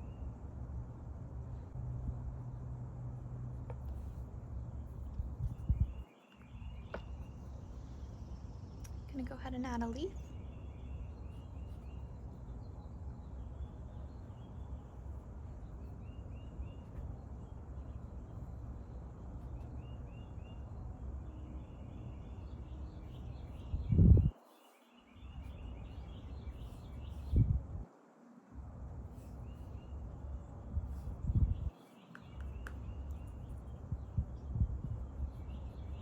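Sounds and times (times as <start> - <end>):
steady low rumble: 0.0 - 24.4, 25.4 - 27.9, 28.6 - 31.7, 32.4 - 36.0
small birds chirping: 3.7 - 27.7, 29.1 - 36.0.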